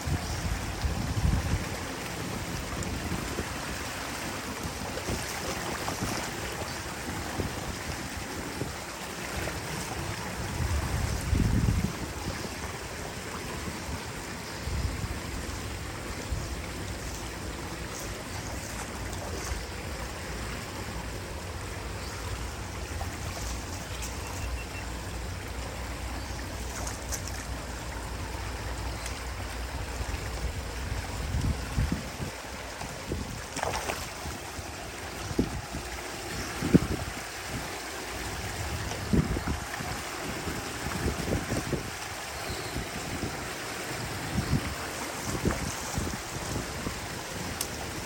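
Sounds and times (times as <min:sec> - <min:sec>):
flowing water rushing: 0:00.0 - 0:48.0.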